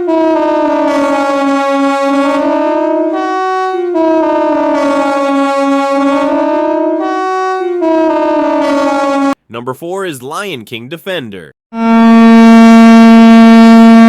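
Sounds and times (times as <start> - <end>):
warning siren multi-tone chord: 0.0 - 9.4, 11.7 - 14.0.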